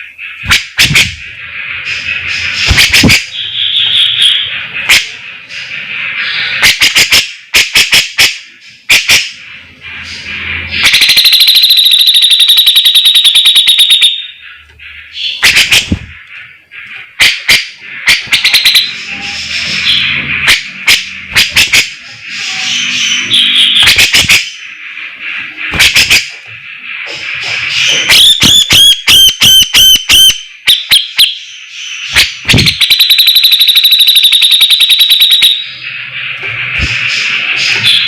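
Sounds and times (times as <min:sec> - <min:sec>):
bird singing with chattering rattles: 0:00.0 - 0:38.0.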